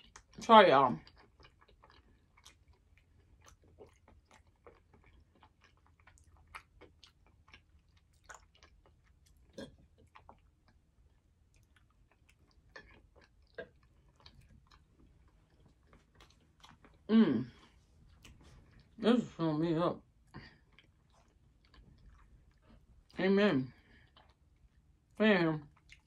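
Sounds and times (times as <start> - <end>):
faint chewing clicks and smacks: 0.0 - 19.0, 20.0 - 26.0.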